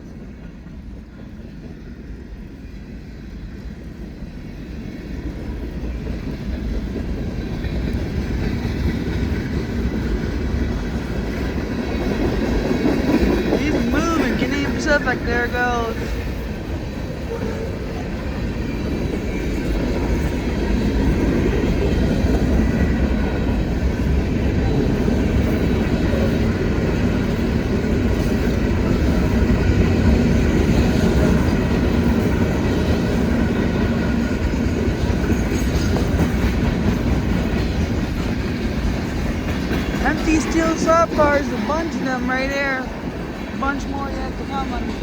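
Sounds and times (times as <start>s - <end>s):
freight train wheels rumbling on rail: 0.0s - 45.0s.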